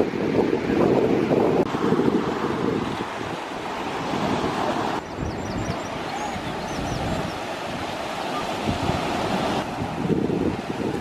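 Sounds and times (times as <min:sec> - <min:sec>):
waves on a pebble beach: 0:00.0 - 0:11.0
wind buffeting microphone: 0:00.0 - 0:11.0.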